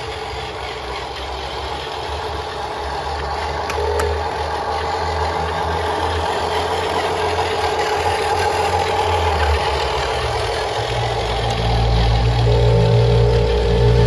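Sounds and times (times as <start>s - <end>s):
high motor whine: 0.0s - 14.0s
toy truck motor hum: 0.0s - 14.0s.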